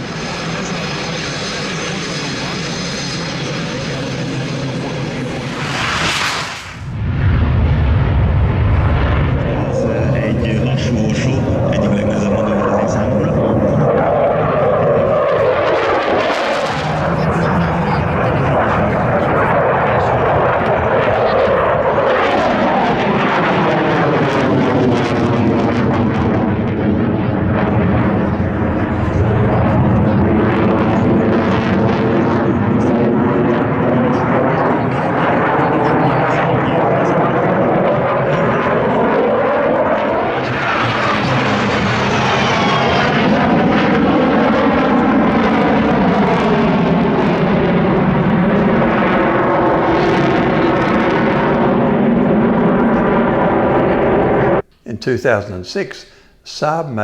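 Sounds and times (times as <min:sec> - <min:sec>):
aircraft engine roaring: 0:00.0 - 0:54.7.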